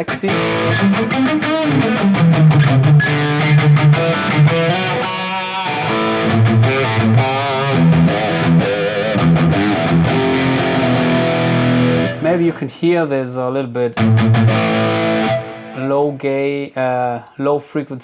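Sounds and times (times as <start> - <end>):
electric guitar riffing: 0.0 - 12.6, 14.0 - 16.1.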